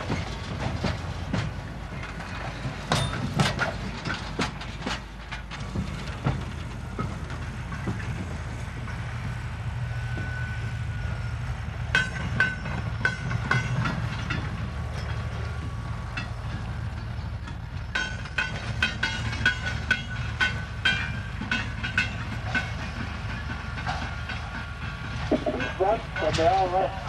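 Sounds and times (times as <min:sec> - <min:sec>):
metallic wheel clicks on rail joints: 0:00.0 - 0:09.1, 0:11.2 - 0:26.8
railway wagons rumbling: 0:00.0 - 0:27.0.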